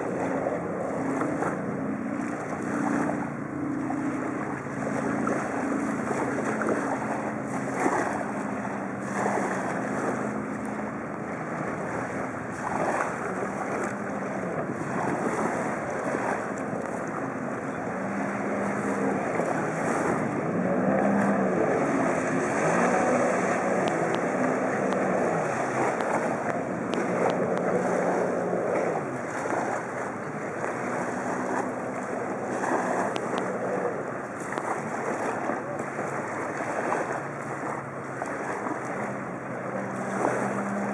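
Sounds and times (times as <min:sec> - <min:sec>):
jet ski engine running: 0:00.0 - 0:40.9.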